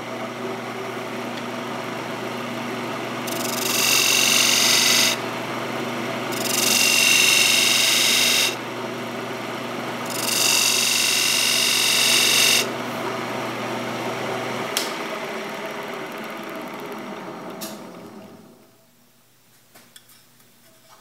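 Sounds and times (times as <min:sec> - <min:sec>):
lathe motor humming: 0:00.0 - 0:18.6.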